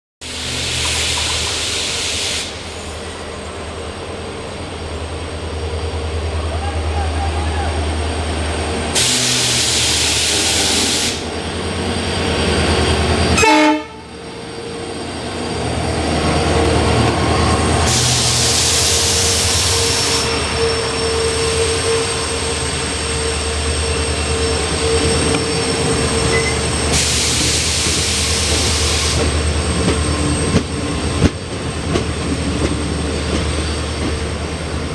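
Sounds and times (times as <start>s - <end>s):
diesel locomotive engine drone: 0.2s - 34.9s
train rumble: 0.2s - 34.9s.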